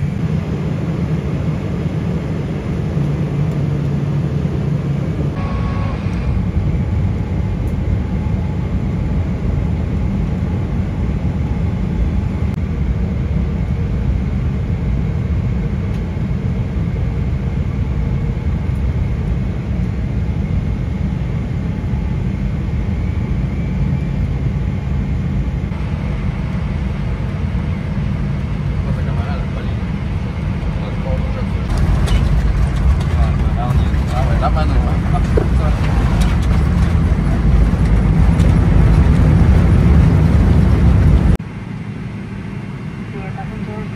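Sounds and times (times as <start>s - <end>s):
airliner cabin engine rumble: 0.0s - 43.9s.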